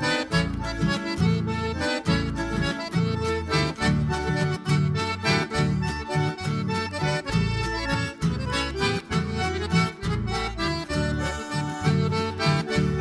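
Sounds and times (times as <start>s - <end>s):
accordion folk dance music: 0.0s - 13.0s.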